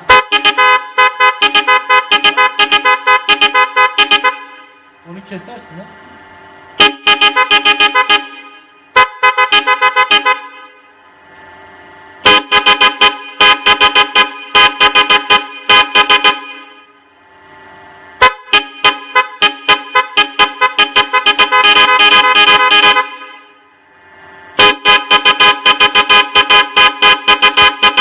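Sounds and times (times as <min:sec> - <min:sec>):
car horn stuttering blasts: 0:00.0 - 0:06.0, 0:06.7 - 0:11.2, 0:12.2 - 0:17.2, 0:18.2 - 0:23.8, 0:24.6 - 0:28.0.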